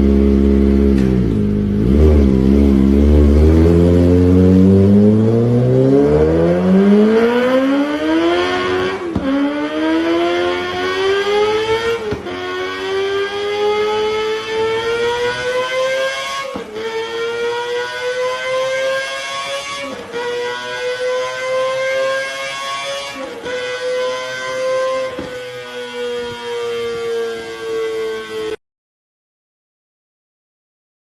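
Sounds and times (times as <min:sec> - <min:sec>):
car engine accelerating: 0:00.0 - 0:28.6.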